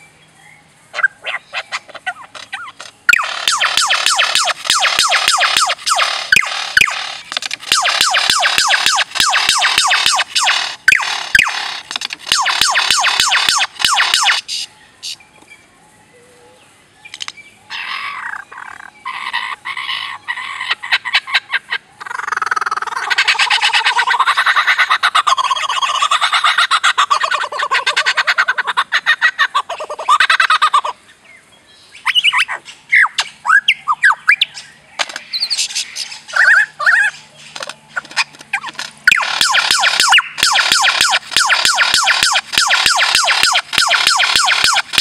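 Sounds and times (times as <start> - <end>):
lyrebird mimicking calls: 0.9 - 15.2, 17.7 - 31.0, 35.3 - 45.0.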